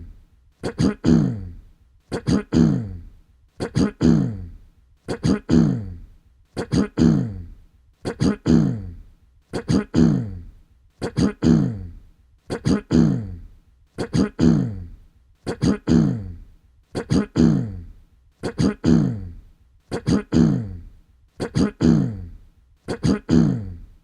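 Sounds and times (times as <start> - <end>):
person clearing throat: 0.0 - 23.9.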